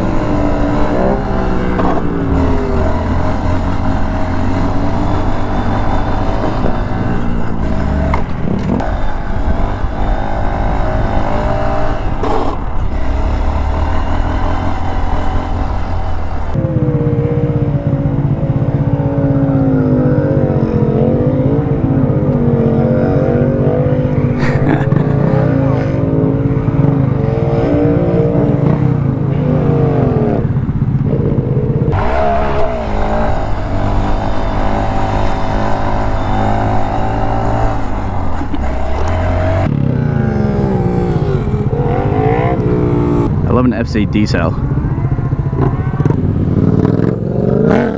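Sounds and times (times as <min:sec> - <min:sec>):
vehicle engines revving: 0:00.0 - 0:47.9.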